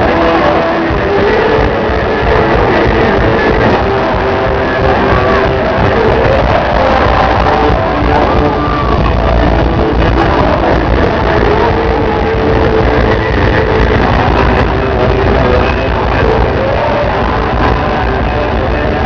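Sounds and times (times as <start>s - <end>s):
live band music with singing: 0.0s - 19.0s.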